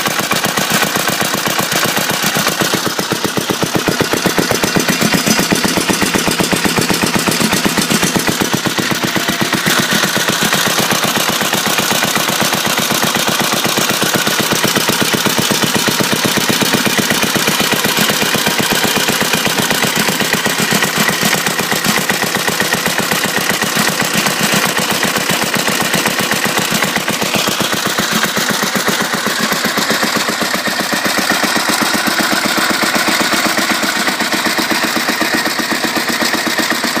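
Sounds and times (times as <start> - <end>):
stationary petrol engine running: 0.0 - 37.0.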